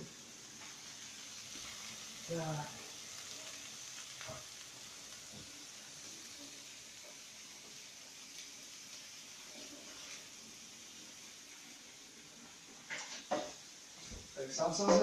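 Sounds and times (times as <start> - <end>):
meat and onion sizzling in a pan: 0.0 - 15.0.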